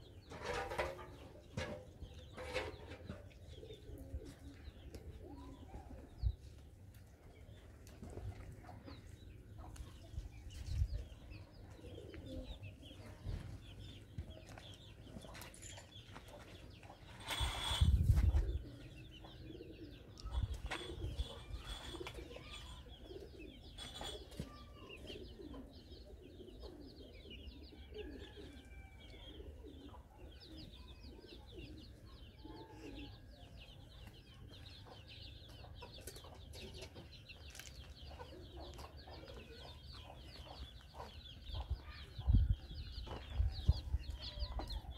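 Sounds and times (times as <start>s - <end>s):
pigeons cooing: 0.0s - 6.6s, 10.6s - 44.9s
small birds chirping: 0.0s - 44.9s.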